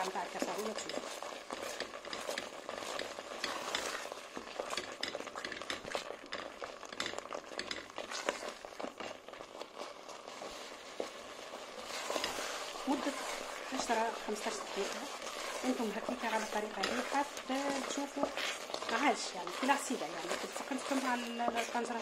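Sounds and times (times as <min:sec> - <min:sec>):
wooden spoon stirring thick paste: 0:00.0 - 0:22.0.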